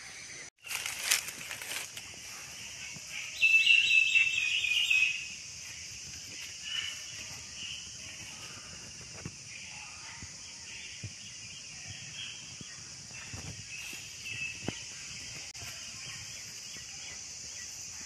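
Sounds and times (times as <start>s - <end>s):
steady high-pitched hiss: 0.0s - 18.0s.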